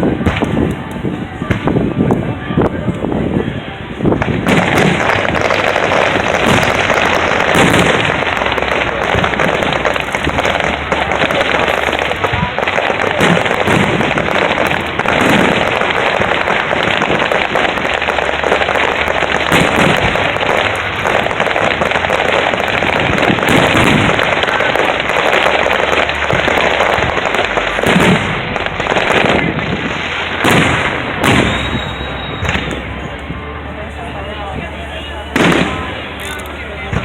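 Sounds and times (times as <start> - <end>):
deep firework bursts: 0.0 - 37.0
fireworks crackling: 0.0 - 37.0.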